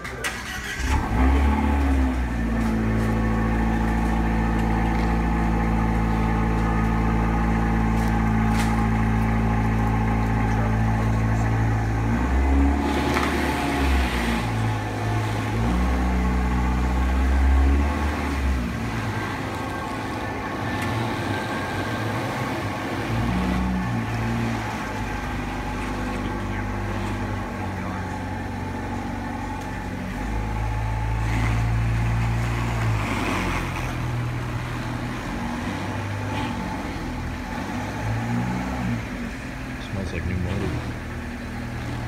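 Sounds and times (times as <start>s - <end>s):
car engine idling: 0.0s - 38.3s, 38.9s - 42.0s.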